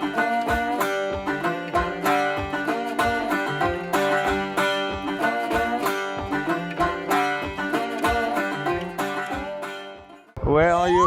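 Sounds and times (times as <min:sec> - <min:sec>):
upbeat plucked-string instrumental: 0:00.0 - 0:10.4.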